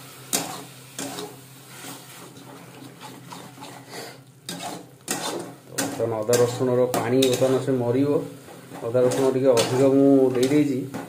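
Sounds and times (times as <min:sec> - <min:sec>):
metal spatula scraping paste in pan: 0:00.3 - 0:07.8, 0:08.5 - 0:11.0.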